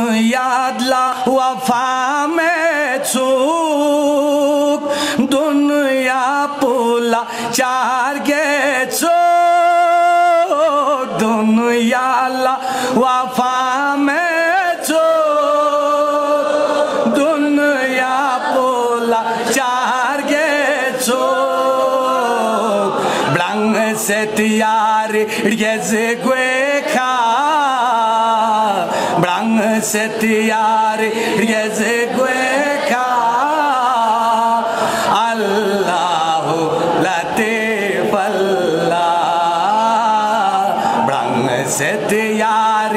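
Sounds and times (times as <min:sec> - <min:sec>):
man singing unaccompanied: 0:00.0 - 0:42.9.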